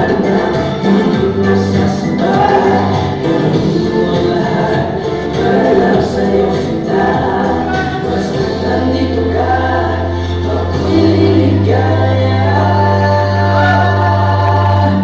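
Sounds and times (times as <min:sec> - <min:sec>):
dance song with vocals: 0:00.0 - 0:15.0
steady bass line: 0:00.0 - 0:15.0.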